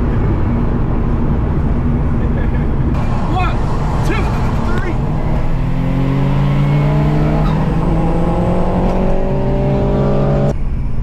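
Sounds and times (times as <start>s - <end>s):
car engine revving at full throttle: 0.0s - 10.6s.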